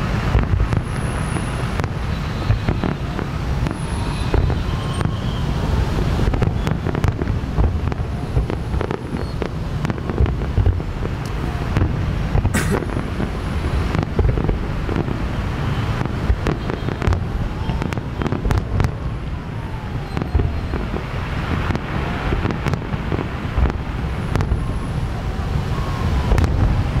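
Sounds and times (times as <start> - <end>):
firework whistles: 0.0 - 27.0
fireworks bangs and cracks: 0.0 - 27.0.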